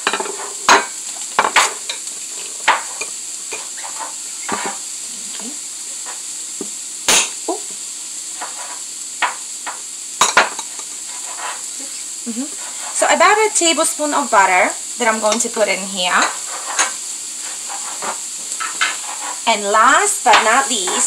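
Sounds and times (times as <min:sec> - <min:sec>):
butter sizzling in a pan: 0:00.0 - 0:21.0.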